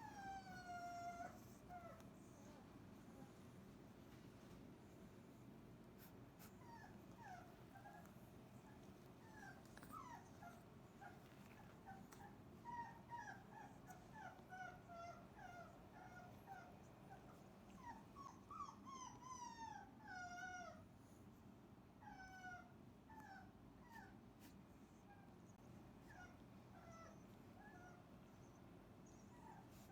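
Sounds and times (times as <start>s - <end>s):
puppies whimpering and whining: 0.0s - 3.4s, 6.0s - 20.9s, 22.0s - 24.2s, 25.0s - 29.9s.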